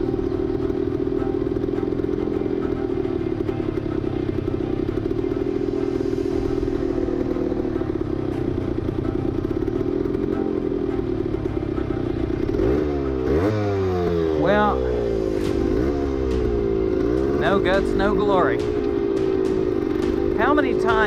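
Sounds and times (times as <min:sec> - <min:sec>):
two-stroke engine running: 0:00.0 - 0:21.0.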